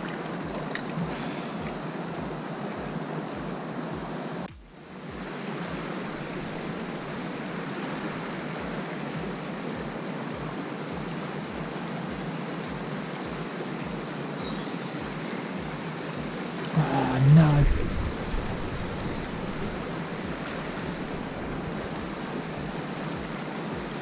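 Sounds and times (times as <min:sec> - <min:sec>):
river running over stones: 0:00.0 - 0:24.0.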